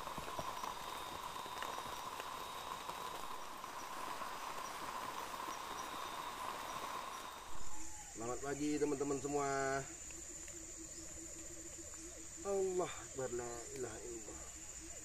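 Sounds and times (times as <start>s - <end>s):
insect chorus droning: 0.0s - 15.0s
rain falling: 0.0s - 15.0s.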